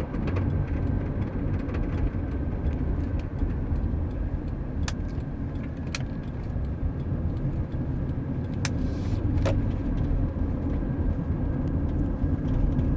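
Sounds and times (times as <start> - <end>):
road and engine drone: 0.0 - 12.9.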